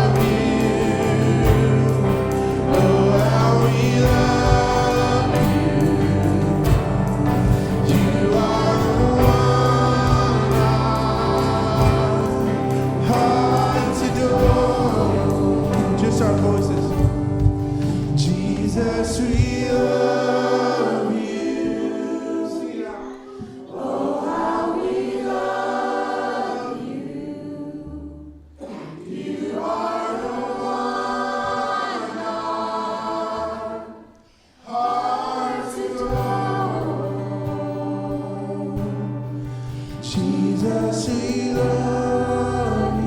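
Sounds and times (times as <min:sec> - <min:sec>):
choir singing with accompaniment: 0:00.0 - 0:43.0.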